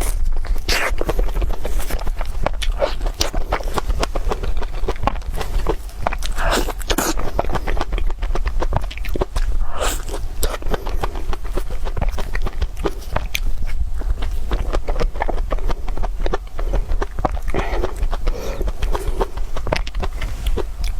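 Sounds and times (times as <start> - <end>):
person chewing crunchy food: 0.0 - 20.9.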